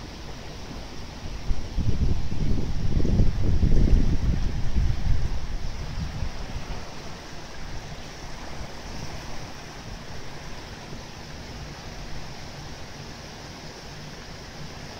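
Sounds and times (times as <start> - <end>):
floodwater rushing: 0.0 - 14.9.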